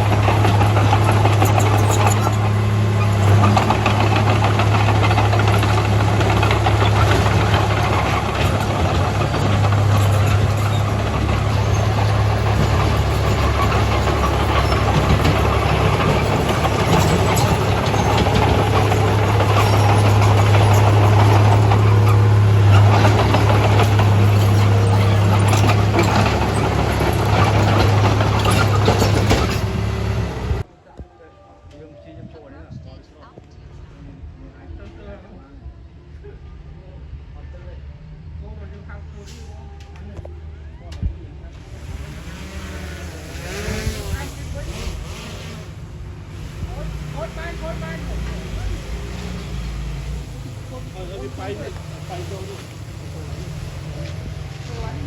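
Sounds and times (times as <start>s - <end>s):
bulldozer diesel engine running: 0.0s - 30.7s, 41.5s - 55.0s.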